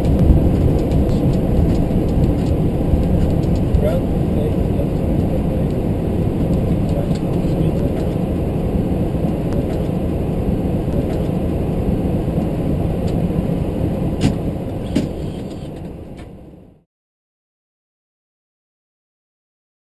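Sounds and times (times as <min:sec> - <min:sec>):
aircraft engine and airflow rumble: 0:00.0 - 0:16.9.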